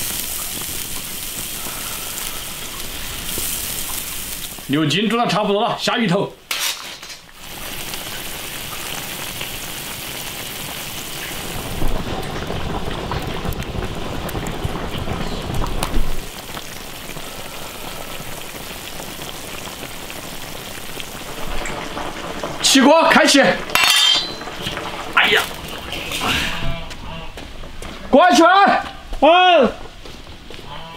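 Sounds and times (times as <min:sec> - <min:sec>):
stew boiling with bubbling hiss: 0:00.0 - 0:30.9.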